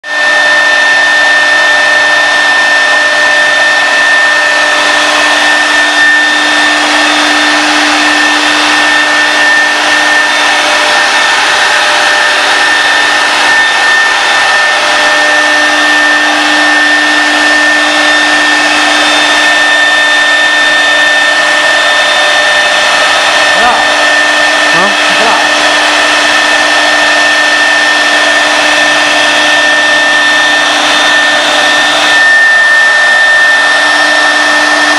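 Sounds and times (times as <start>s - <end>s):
router bit cutting wood: 0.0s - 34.9s
wood router whining: 0.0s - 34.9s.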